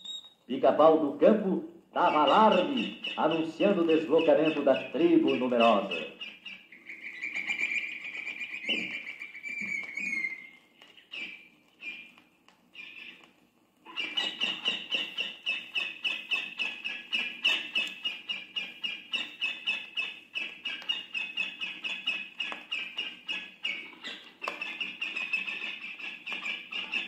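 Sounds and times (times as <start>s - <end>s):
bird alarm call: 2.0s - 12.1s, 13.9s - 27.0s.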